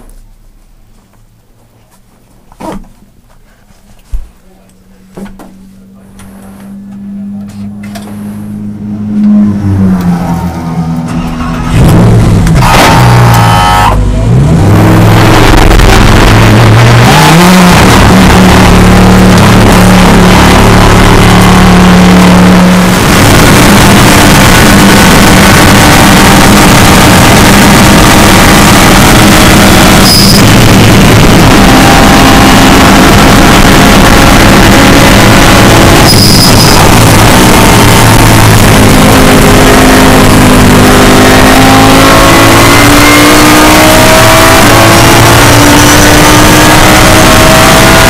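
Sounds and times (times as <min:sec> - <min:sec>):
race car engine revving: 0:04.3 - 0:48.0.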